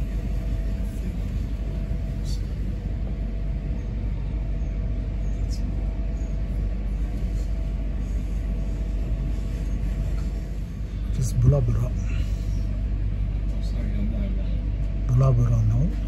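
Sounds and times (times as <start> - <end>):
faint steady hum: 0.0 - 16.0
train rumbling from inside carriage: 0.0 - 16.0.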